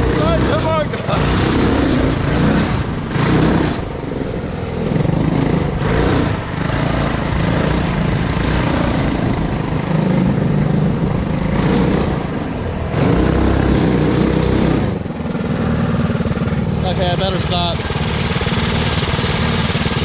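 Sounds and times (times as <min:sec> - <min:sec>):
go-kart engines running under load: 0:00.0 - 0:20.0.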